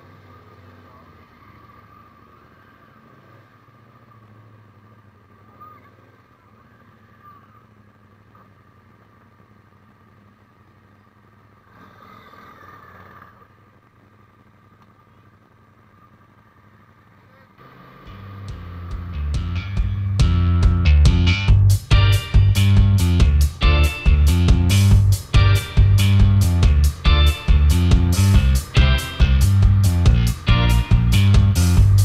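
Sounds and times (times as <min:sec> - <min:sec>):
faint motorcycle engine: 0:00.0 - 0:32.0.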